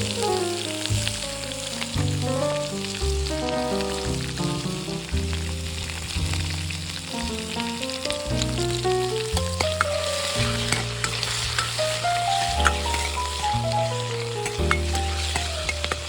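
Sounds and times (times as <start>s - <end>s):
background music: 0.0s - 16.0s
food sizzling in a pan: 0.0s - 16.0s.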